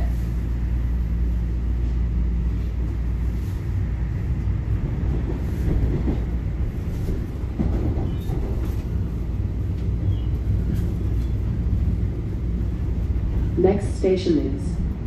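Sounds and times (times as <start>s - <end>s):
subway train pulling away: 0.0s - 15.0s.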